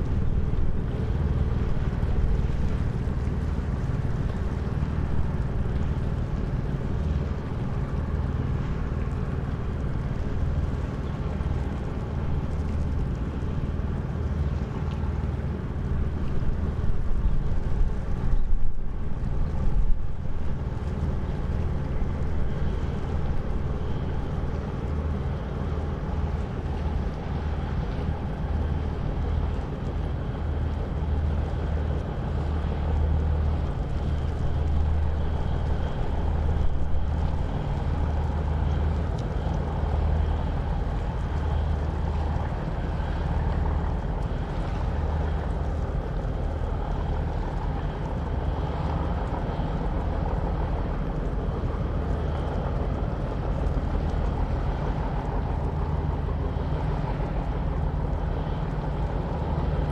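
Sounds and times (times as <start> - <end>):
boat diesel engine droning: 0.0 - 59.9.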